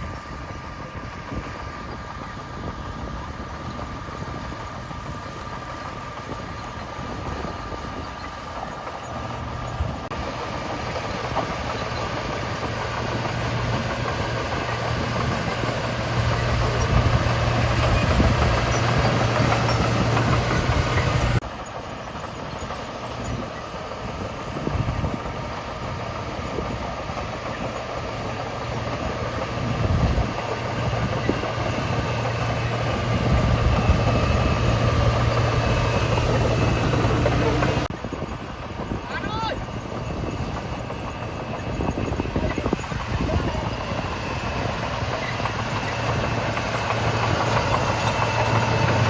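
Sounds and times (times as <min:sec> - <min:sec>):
heavy diesel engines running: 0:00.0 - 0:49.0.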